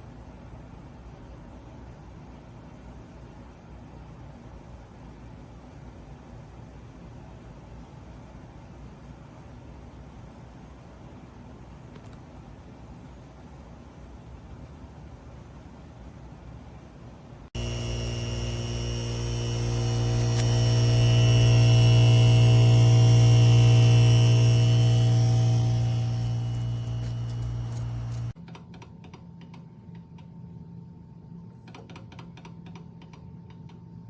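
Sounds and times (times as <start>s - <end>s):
low hum with overtones: 0.1s - 28.4s.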